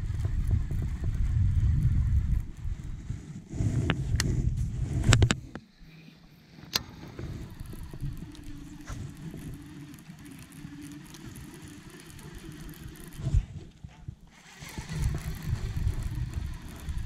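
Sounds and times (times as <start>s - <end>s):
fishing reel gears whirring: 0.0s - 3.0s, 5.7s - 17.0s.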